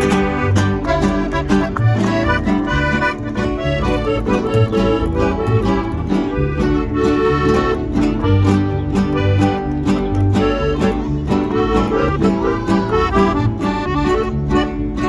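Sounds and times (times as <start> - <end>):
accordion melody: 0.0 - 15.0
bouncing bass line: 0.0 - 15.0.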